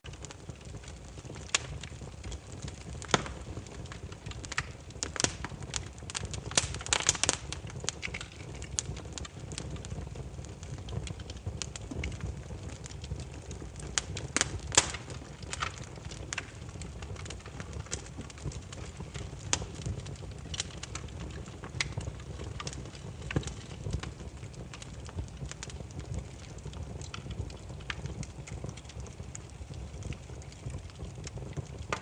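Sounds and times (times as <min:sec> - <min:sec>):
firewood crackling: 0:00.0 - 0:32.0.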